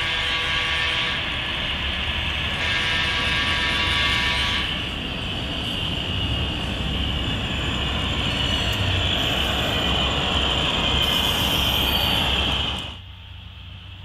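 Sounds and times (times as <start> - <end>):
model train rumbling and whining: 0.0 - 14.0.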